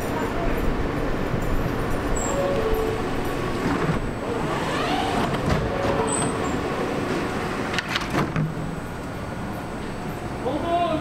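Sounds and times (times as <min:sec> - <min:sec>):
subway doors sliding shut: 0:00.0 - 0:10.4
steady mechanical rumble: 0:00.0 - 0:11.0
doors clunking closed: 0:01.2 - 0:10.2.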